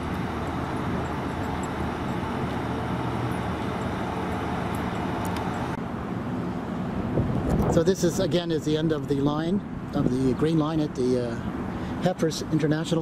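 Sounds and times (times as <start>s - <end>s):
streetcar humming: 0.0s - 13.0s.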